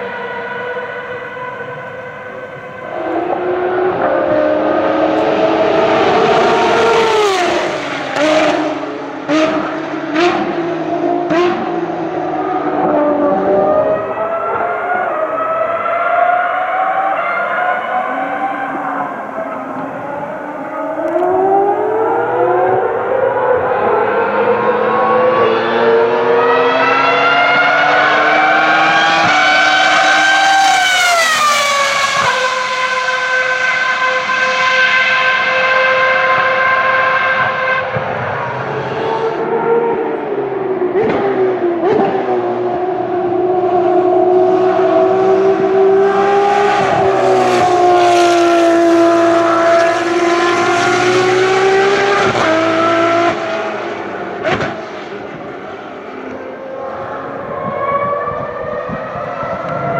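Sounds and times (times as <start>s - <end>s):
racing car engine at high revs: 0.0s - 59.9s.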